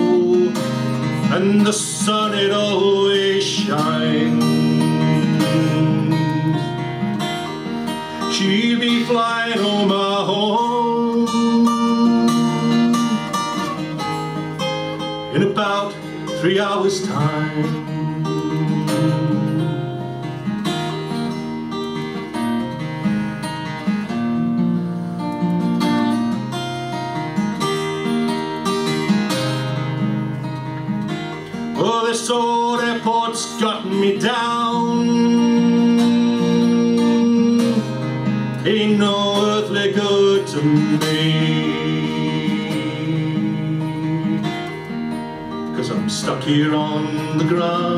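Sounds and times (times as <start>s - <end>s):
acoustic guitar strumming and picking: 0.0s - 47.9s.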